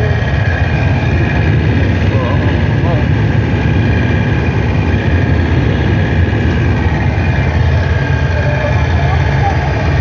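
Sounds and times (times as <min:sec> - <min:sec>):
vehicle engine and road noise: 0:00.0 - 0:10.0
wind rushing at open window: 0:00.0 - 0:10.0.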